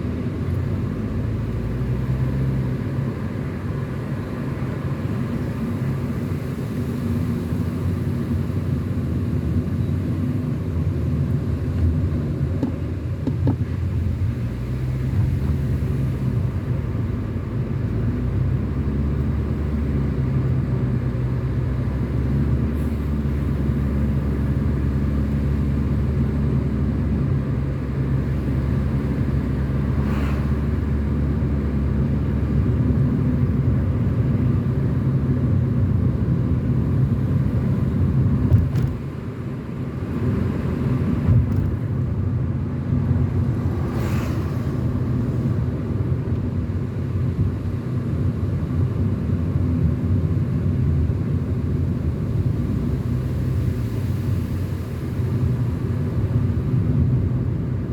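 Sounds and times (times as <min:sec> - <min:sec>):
car engine droning: 0:00.0 - 0:57.9
road noise: 0:00.0 - 0:57.9.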